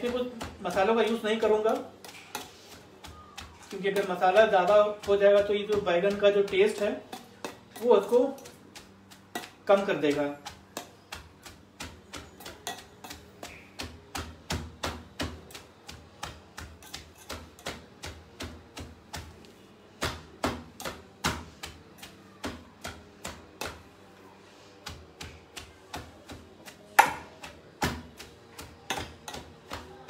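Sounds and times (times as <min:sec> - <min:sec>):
pestle knocking in steel vessel: 0:00.0 - 0:19.4, 0:24.8 - 0:30.0.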